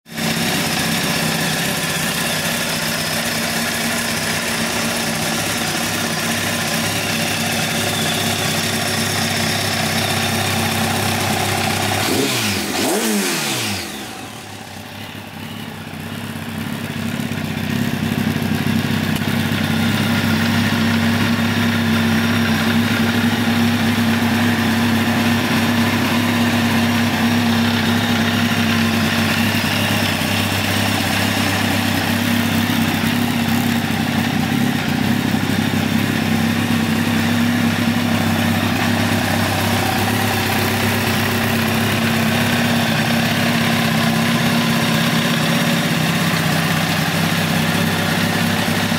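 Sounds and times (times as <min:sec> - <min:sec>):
motorcycle engine idling: 0:00.1 - 0:48.9.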